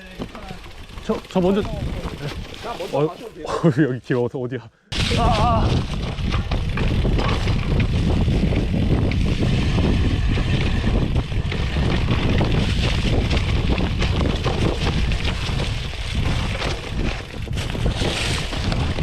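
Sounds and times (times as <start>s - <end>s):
wind rushing over microphone: 0.0s - 3.0s, 4.9s - 19.0s
bike rattling: 0.0s - 3.8s, 4.9s - 19.0s
bike tyres on gravel: 0.0s - 3.8s, 4.9s - 19.0s.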